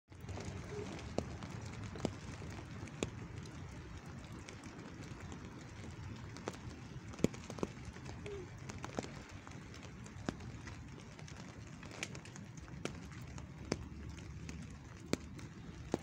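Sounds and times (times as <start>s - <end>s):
rain pattering on umbrella: 0.1s - 16.0s
sharp raindrops tapping: 0.1s - 16.0s.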